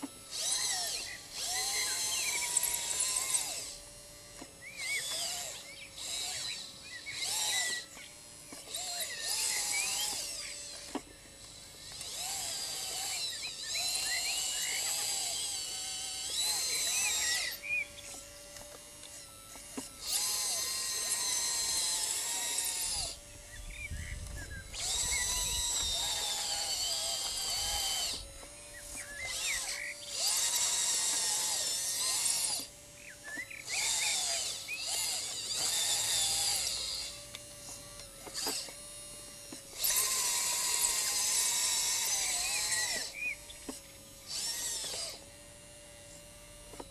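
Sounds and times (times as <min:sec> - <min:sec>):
electric motor high-pitched whine: 0:00.0 - 0:46.9.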